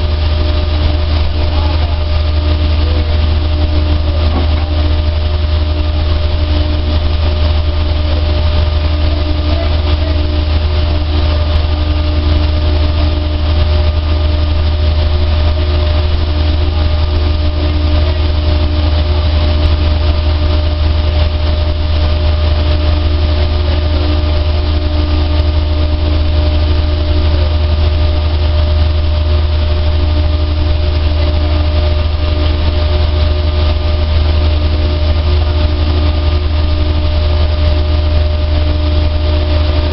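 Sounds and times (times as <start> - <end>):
dryer humming: 0.0 - 39.9.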